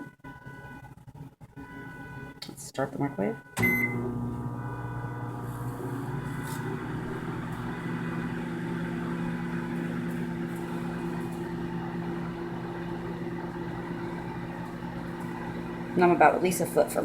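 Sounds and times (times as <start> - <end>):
microwave oven humming: 3.1 - 17.0.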